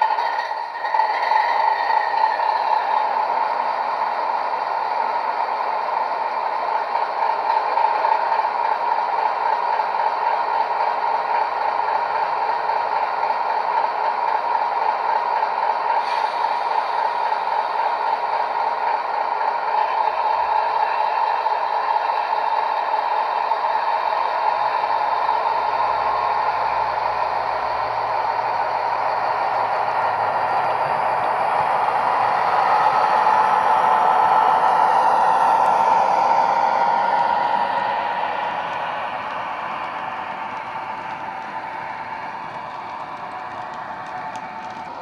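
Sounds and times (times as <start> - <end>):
diesel engine idling from small speaker: 0.0 - 45.0.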